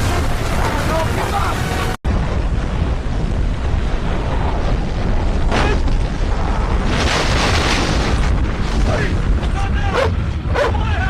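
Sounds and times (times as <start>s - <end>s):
tornado wind rumbling: 0.0s - 11.0s.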